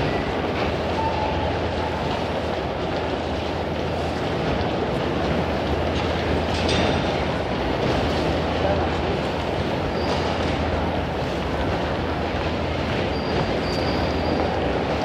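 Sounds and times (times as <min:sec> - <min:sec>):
train and concourse noise: 0:00.0 - 0:15.0.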